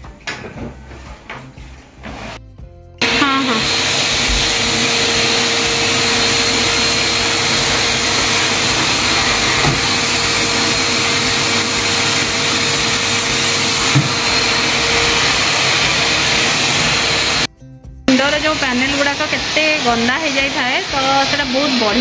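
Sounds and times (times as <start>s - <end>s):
vacuum cleaner running: 3.0s - 17.5s, 18.1s - 22.0s.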